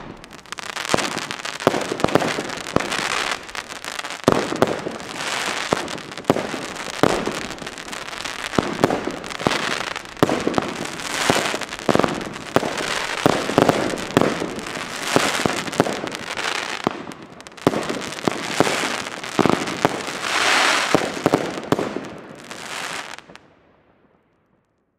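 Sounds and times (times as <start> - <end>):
fireworks hiss: 0.0 - 16.9, 17.5 - 21.7
fireworks bangs: 0.0 - 24.2.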